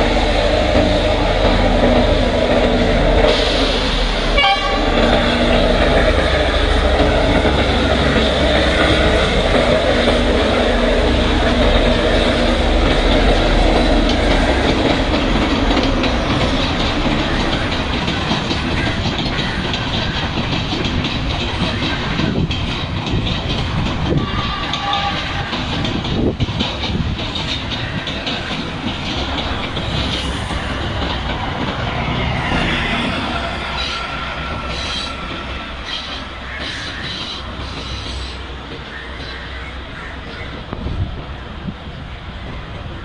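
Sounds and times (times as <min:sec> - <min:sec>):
train engine hum: 0:00.0 - 0:43.0
wheel-on-rail noise: 0:00.0 - 0:43.0.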